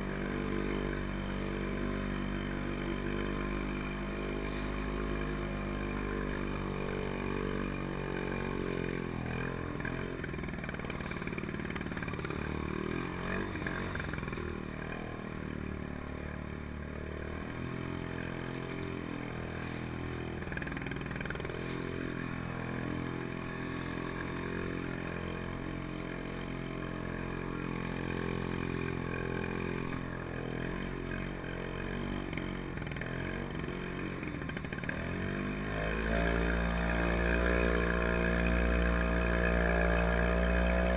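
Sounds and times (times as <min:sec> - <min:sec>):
two-stroke engine running: 0:00.0 - 0:40.9.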